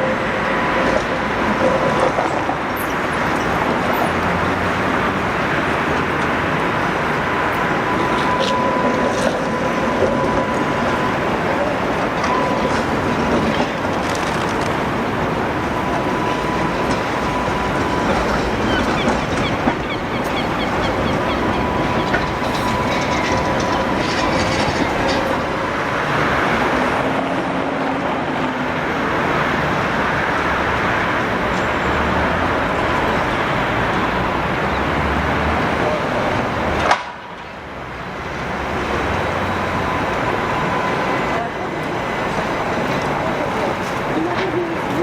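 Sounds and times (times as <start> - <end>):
tram wheels rumbling: 0.0 - 45.0.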